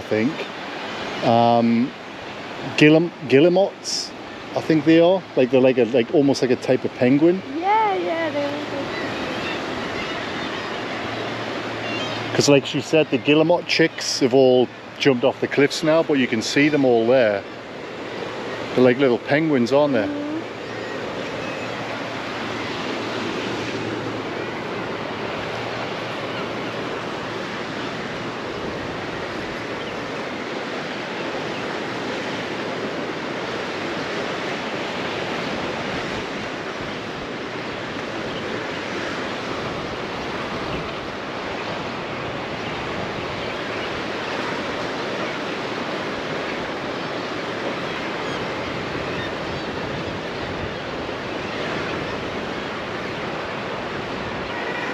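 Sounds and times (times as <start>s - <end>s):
surf washing against rocks: 0.0s - 54.9s.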